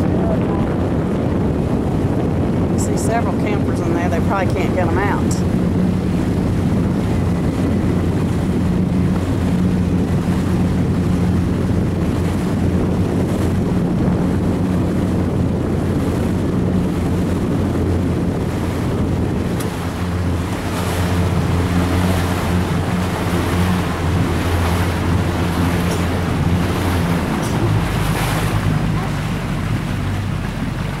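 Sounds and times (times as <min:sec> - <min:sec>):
boat engine running: 0:00.0 - 0:31.0
water rushing past hull: 0:00.0 - 0:31.0
wind noise on microphone: 0:00.0 - 0:31.0.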